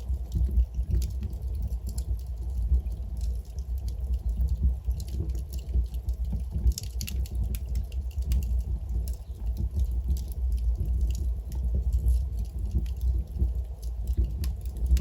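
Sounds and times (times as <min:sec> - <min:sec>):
fire low rumble: 0:00.0 - 0:15.0
logs crackling and popping: 0:00.0 - 0:15.0.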